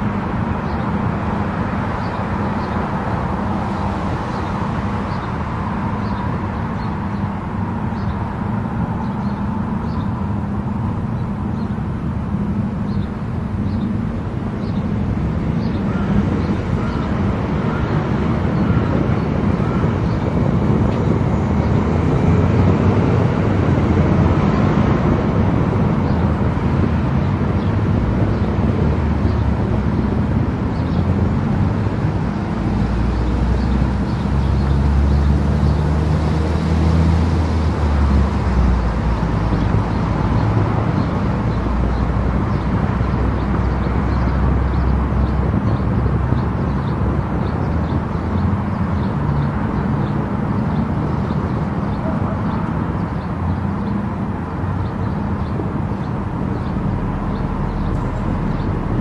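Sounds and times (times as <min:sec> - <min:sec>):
car driving on highway: 0:00.0 - 0:59.0.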